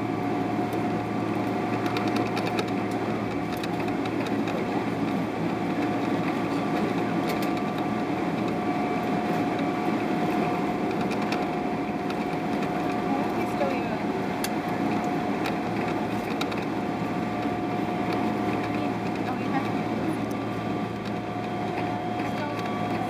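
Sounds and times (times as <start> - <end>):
airplane cabin rumble and hum: 0.0 - 23.0
steady whine: 0.0 - 23.0.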